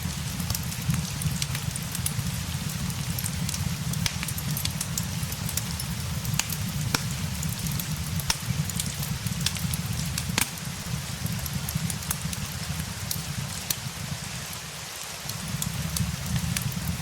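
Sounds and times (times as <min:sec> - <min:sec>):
steady rain hissing: 0:00.0 - 0:17.0
wood fire crackling and popping: 0:00.0 - 0:17.0.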